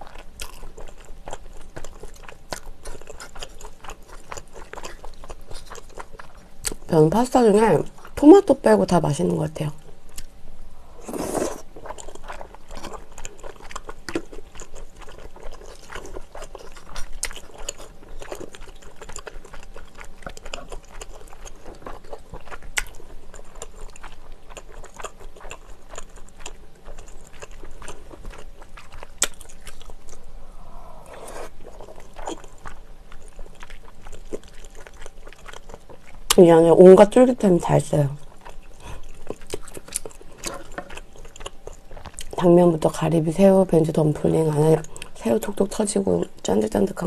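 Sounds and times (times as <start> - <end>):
wet chewing: 0.0 - 6.9, 11.0 - 47.0.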